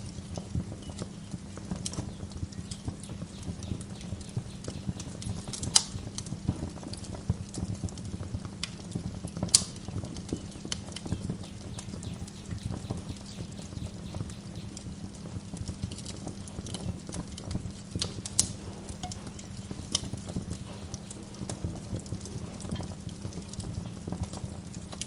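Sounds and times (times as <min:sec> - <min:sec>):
loud fire pops: 0:00.0 - 0:25.0
wood fire crackling: 0:00.0 - 0:25.0.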